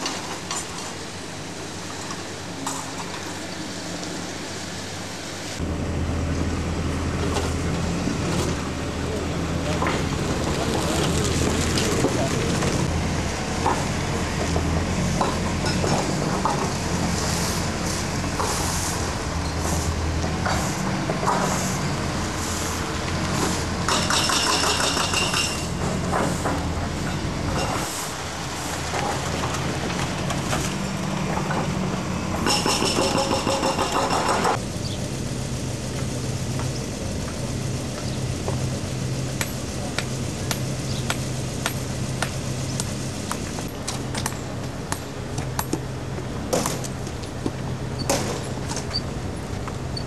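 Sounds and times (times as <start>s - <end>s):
vehicle engines running: 5.6s - 50.0s.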